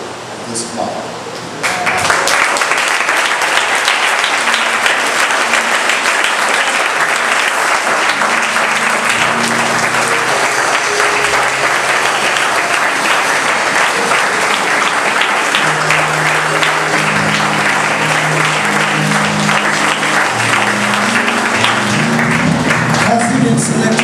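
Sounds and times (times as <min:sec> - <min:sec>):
congregation applauding: 0:01.6 - 0:24.0
low sustained instrument notes: 0:04.1 - 0:24.0.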